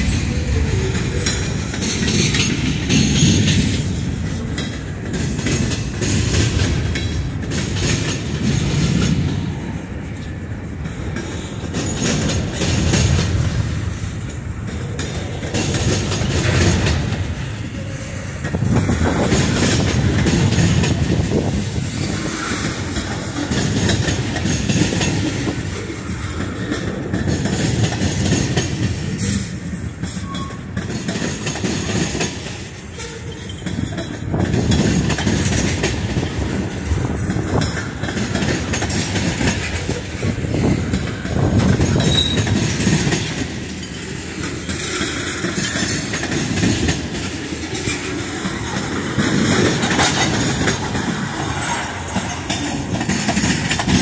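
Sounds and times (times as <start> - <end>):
freight train cars rumbling: 0.0 - 54.0
wheels clacking over rail joints: 0.0 - 54.0.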